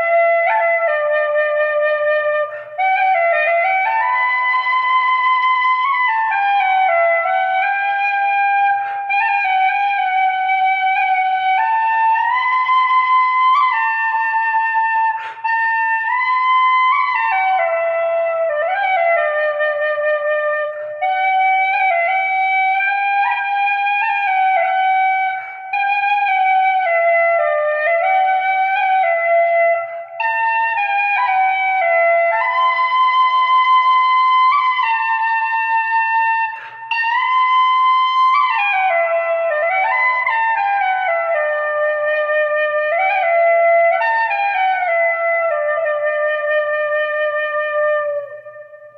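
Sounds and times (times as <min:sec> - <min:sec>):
flute playing slow melody: 0:00.0 - 0:48.9.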